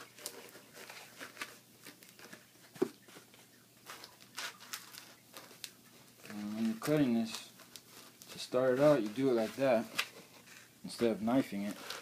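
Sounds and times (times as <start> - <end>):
foam rubbing and rustling: 0.0 - 12.0.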